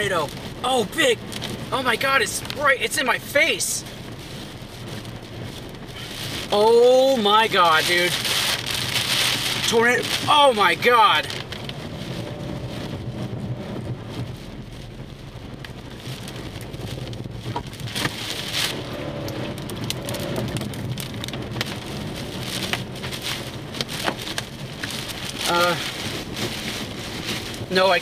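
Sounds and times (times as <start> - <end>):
heavy rain pelting a car: 0.0 - 28.0
low rumble: 0.0 - 28.0.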